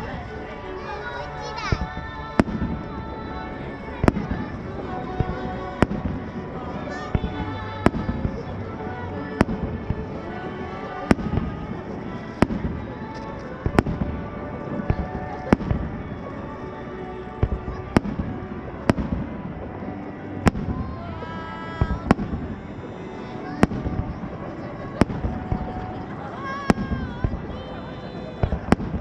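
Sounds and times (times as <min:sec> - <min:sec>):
fireworks bursting: 0:00.0 - 0:29.0
music: 0:00.0 - 0:29.0.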